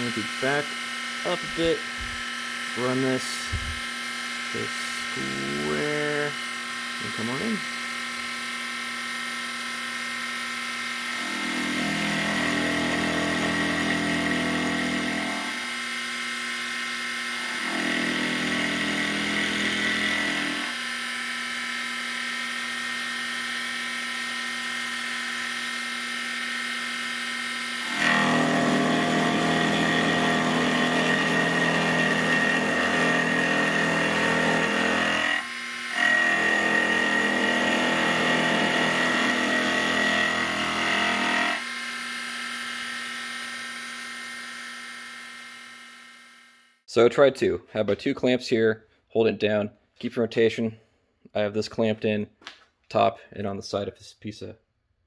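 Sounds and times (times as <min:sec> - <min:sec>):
end mill cutting aluminum: 0:00.0 - 0:46.4
mini mill whine: 0:00.0 - 0:46.8.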